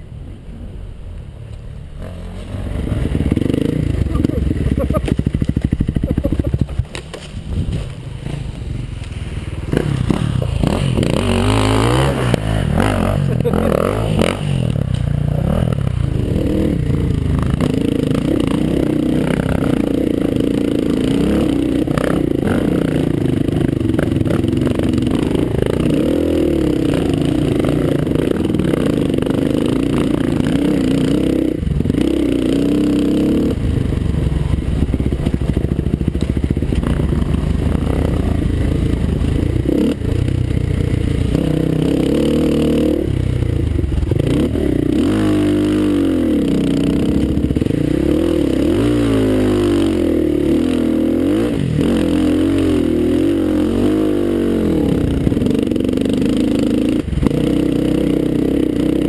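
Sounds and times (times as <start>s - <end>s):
dirt bike engine revving: 2.0s - 59.0s.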